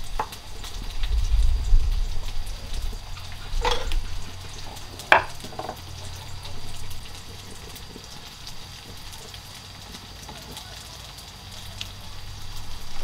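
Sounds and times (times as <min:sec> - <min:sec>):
food frying in a pan: 0:00.0 - 0:13.0.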